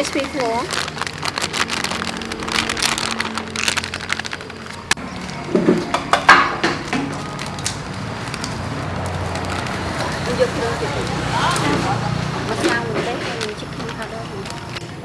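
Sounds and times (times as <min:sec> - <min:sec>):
plastic packet crinkling: 0:00.0 - 0:05.9, 0:06.8 - 0:15.0.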